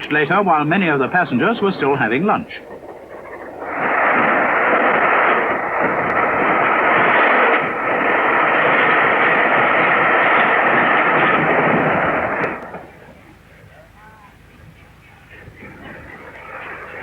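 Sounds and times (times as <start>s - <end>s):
steam locomotive rushing at speed: 0.0s - 13.7s, 14.3s - 17.0s.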